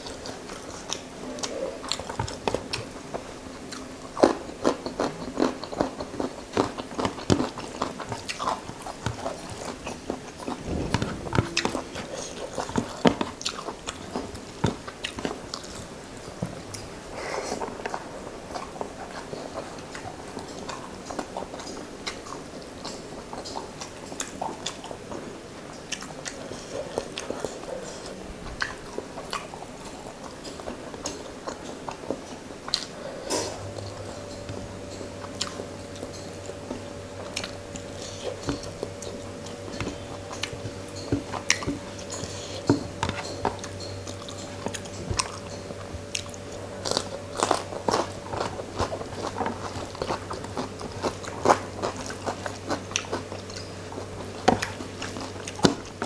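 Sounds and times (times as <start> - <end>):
person chewing with wet clicks: 0.0 - 56.0.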